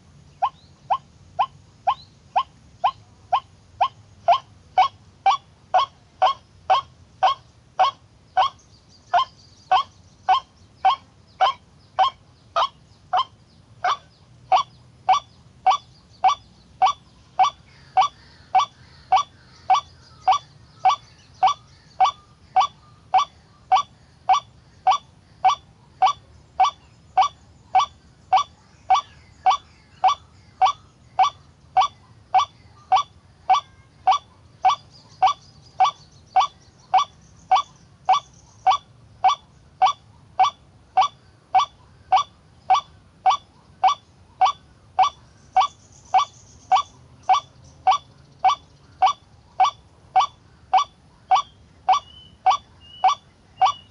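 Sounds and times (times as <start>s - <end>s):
harsh repeated bird call: 0.4s - 53.9s.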